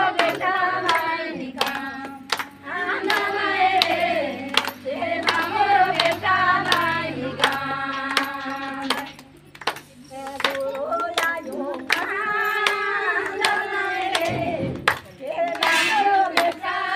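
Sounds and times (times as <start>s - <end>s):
hand claps: 0.0s - 16.9s
women singing together: 0.0s - 16.9s.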